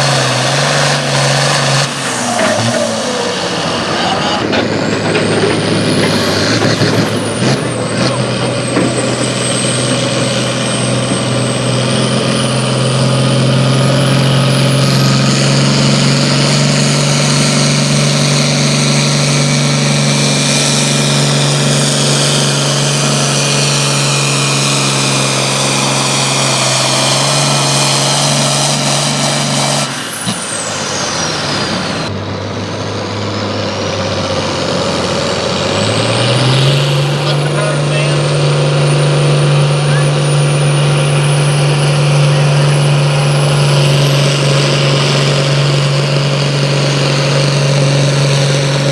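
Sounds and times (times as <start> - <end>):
engine at full throttle: 0.0 - 48.9.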